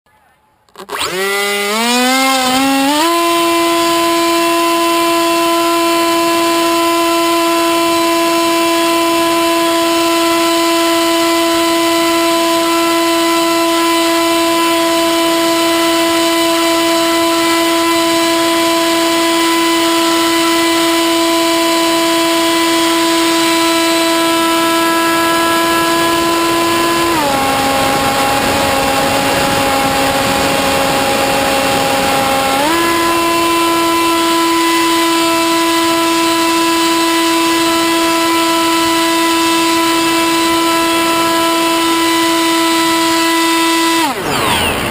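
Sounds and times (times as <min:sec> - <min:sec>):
electric motor and propeller whine: 0:00.7 - 0:44.9.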